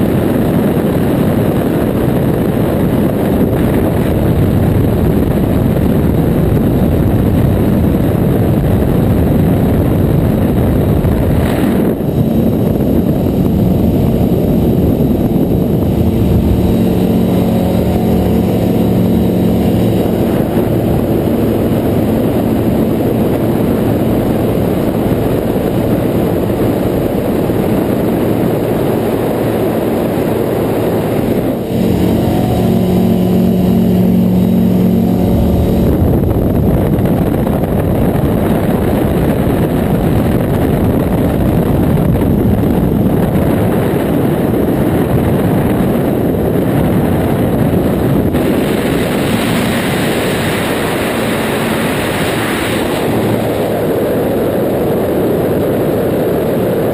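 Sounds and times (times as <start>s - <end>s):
aircraft engine drone: 0.0s - 56.9s
wind rush on microphone: 0.0s - 56.9s.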